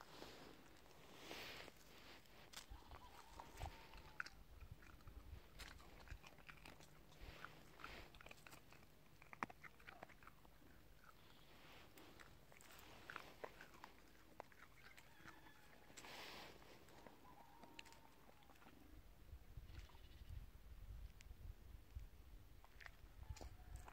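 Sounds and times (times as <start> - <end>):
dog chewing crunchy pods: 0.2 - 19.0, 22.6 - 23.9.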